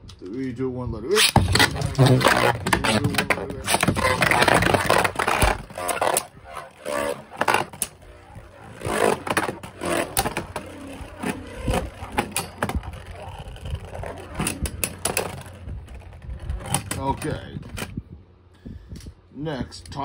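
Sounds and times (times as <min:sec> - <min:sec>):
spinning tops whirring and scraping: 0:01.2 - 0:17.9.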